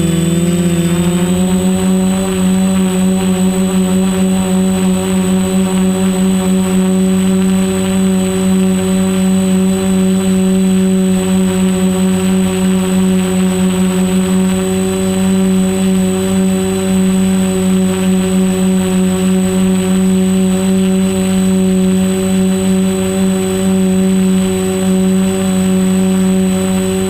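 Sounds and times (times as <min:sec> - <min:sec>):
drone motors droning: 0:00.0 - 0:27.0.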